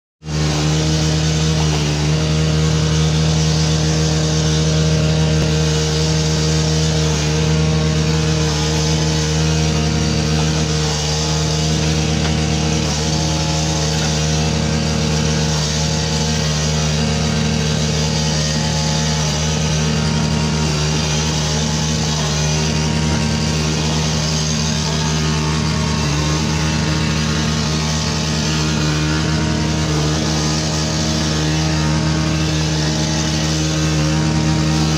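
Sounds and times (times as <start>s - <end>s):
string trimmer motor running: 0.2s - 34.9s.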